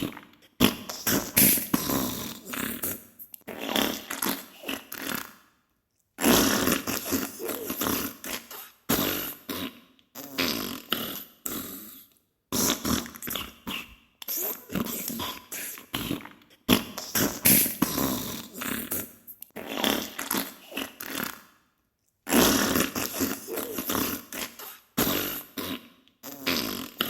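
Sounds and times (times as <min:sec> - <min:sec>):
wet sputtering farts: 0:00.0 - 0:05.4, 0:06.2 - 0:21.5, 0:22.3 - 0:27.0.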